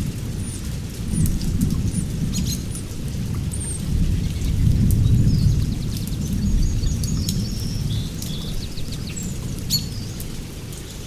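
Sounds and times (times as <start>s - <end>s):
low rumble of thunder: 0.0s - 9.7s
raindrops: 0.0s - 11.0s.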